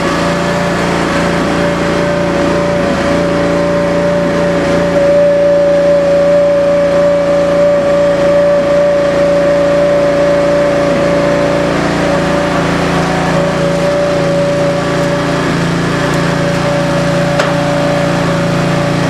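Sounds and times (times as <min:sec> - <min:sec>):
gas engine running: 0:00.0 - 0:19.0
high whine: 0:00.0 - 0:19.0.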